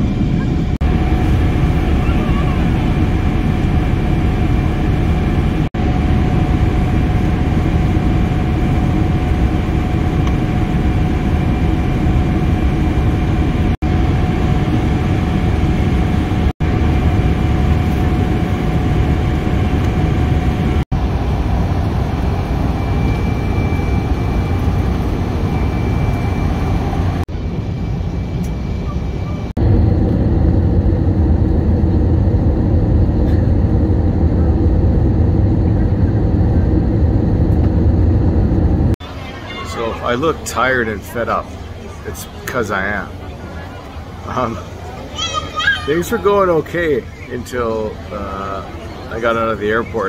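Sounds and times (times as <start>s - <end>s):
airliner cabin roar in flight: 0.0s - 50.0s.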